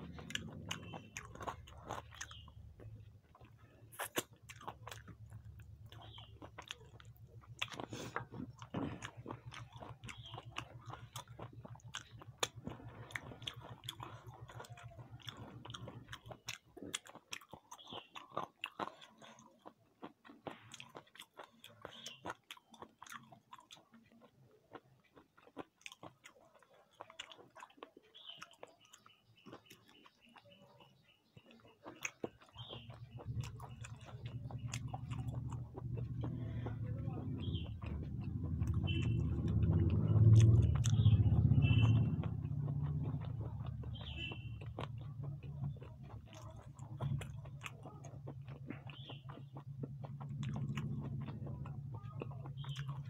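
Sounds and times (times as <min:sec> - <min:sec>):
food crunching: 0:00.0 - 0:53.0
person chewing food: 0:00.0 - 0:53.0.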